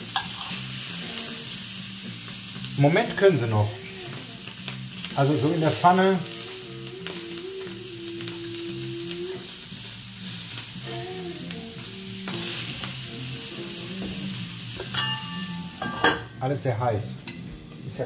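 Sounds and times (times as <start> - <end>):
sausages sizzling in a pan: 0.0 - 18.0.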